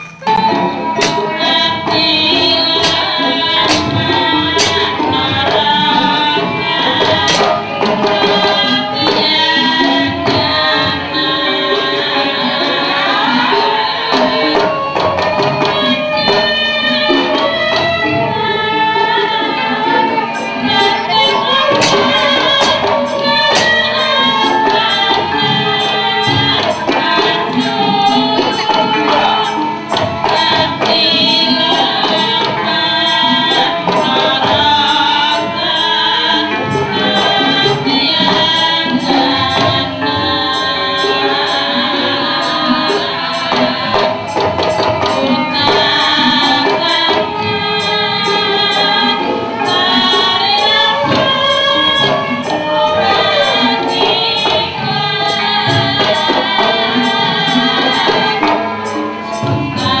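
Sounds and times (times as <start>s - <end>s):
metallic clinking beat: 0.0s - 19.2s, 19.8s - 60.0s
gamelan music: 0.0s - 60.0s
person singing: 0.0s - 60.0s.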